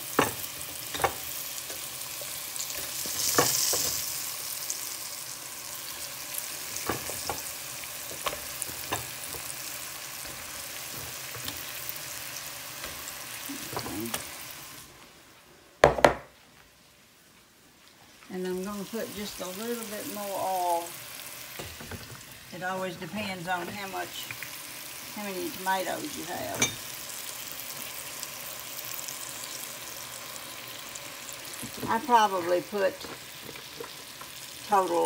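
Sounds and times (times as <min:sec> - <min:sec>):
tomato slices frying in oil: 0:00.0 - 0:15.2, 0:18.1 - 0:35.0.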